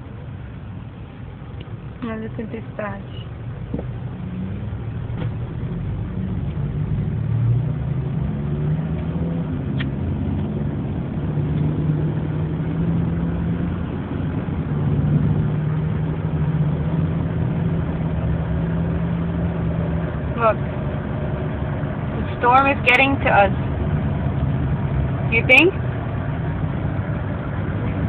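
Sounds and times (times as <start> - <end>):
car engine hum: 0.0 - 28.0
road noise: 0.0 - 28.0.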